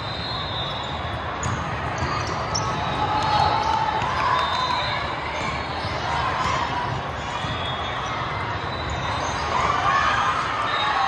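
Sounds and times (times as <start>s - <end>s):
volleyballs hit and bouncing: 1.0s - 9.9s.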